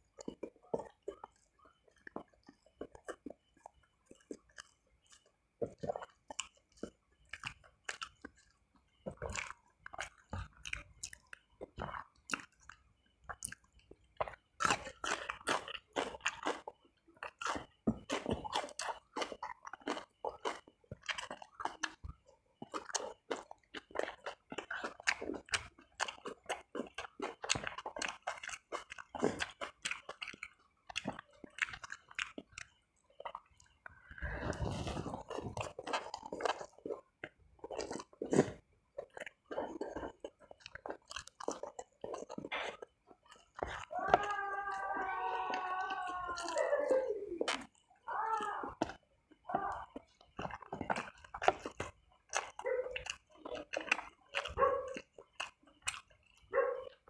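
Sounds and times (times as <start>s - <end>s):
man chewing and biting food: 0.0s - 57.0s.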